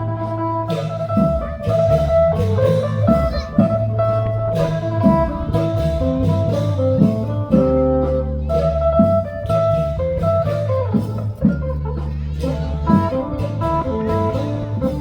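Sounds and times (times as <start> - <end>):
drum kit beat: 0.0 - 15.0
held low notes: 0.0 - 15.0
plucked guitar-like melody: 0.0 - 15.0.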